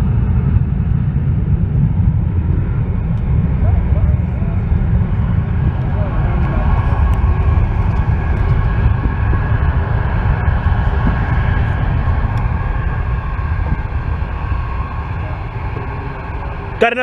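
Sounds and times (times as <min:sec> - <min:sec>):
distant jet airliner rumble: 0:00.0 - 0:17.0.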